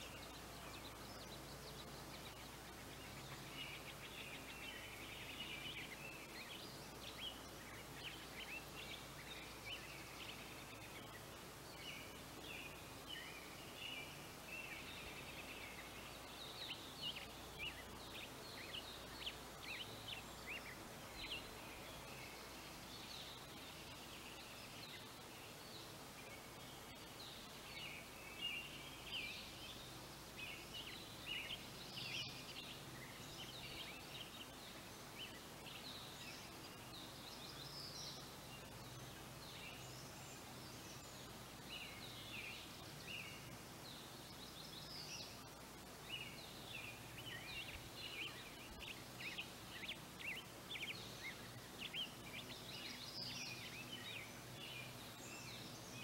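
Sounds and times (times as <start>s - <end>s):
birds chirping: 0.0s - 56.0s
faint outdoor background: 0.0s - 56.0s.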